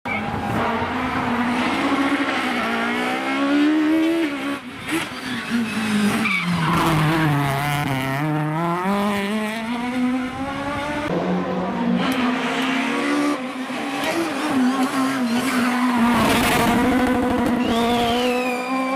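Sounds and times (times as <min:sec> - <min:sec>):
rally car engine revving hard: 0:00.4 - 0:18.9.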